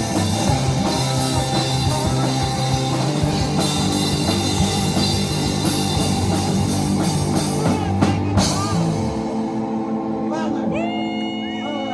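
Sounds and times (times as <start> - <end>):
drums: 0.0 - 11.0
electric guitar: 0.0 - 11.9.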